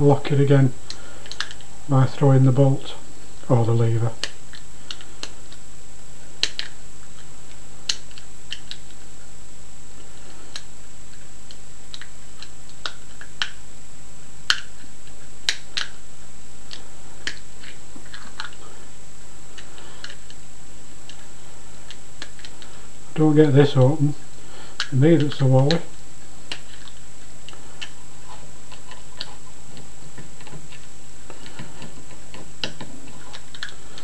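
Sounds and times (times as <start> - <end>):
faint high whine: 0.0 - 34.0
steady hum: 0.0 - 34.0.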